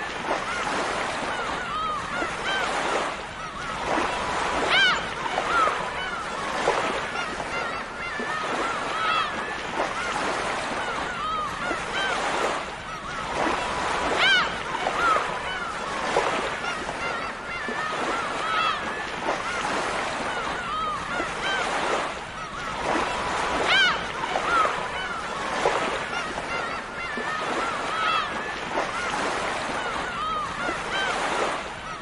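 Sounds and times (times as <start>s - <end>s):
gulls calling: 0.0s - 32.0s.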